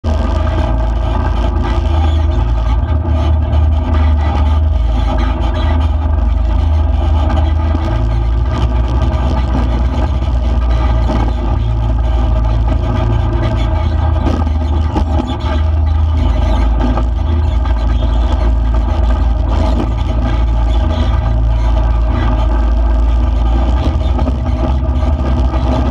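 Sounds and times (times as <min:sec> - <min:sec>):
vehicle driving on dirt road: 0:00.0 - 0:25.9.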